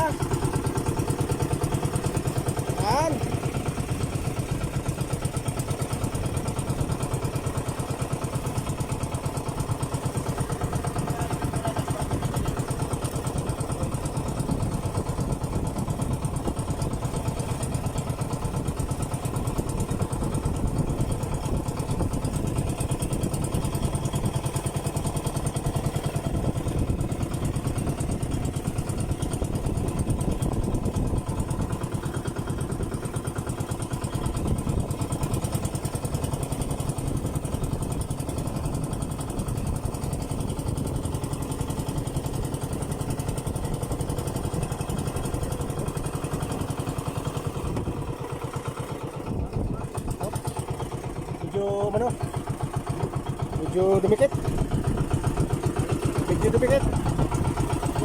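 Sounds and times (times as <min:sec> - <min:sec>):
small boat engine chugging: 0:00.0 - 0:58.0.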